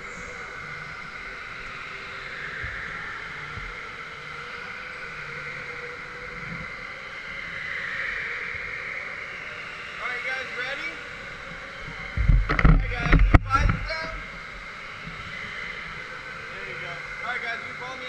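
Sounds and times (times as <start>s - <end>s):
indoor hall background noise: 0.0s - 18.0s.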